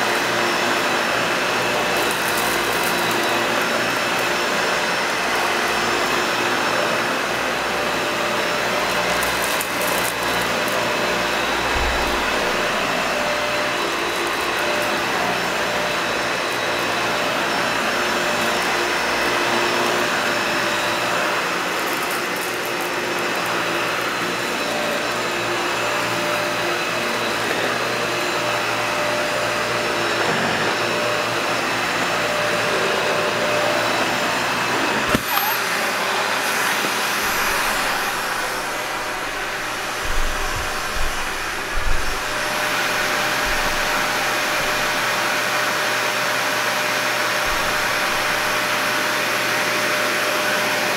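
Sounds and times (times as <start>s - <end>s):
vacuum cleaner running on carpet: 0.0s - 50.9s.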